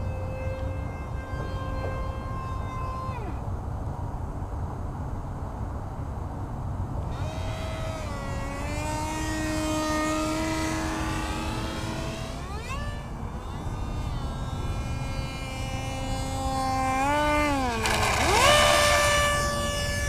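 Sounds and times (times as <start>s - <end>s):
model jet fan whining: 0.0s - 20.0s.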